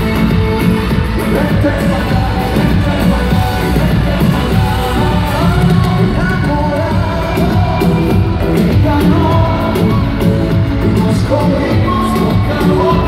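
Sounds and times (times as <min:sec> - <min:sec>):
latin pop music over speakers: 0:00.0 - 0:13.0
man singing into microphone: 0:00.0 - 0:13.0.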